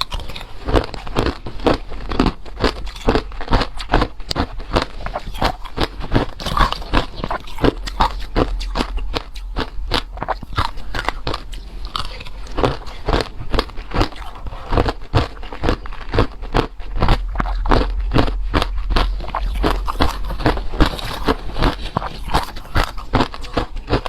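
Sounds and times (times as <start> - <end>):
person chewing ice: 0.0 - 24.0.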